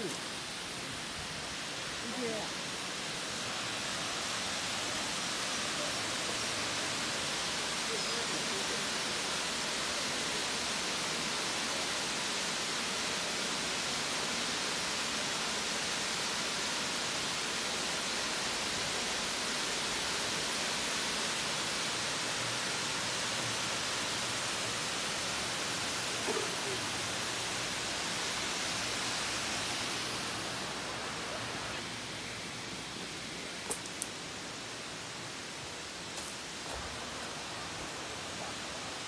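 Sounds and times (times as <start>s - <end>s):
waterfall hiss: 0.0s - 39.0s.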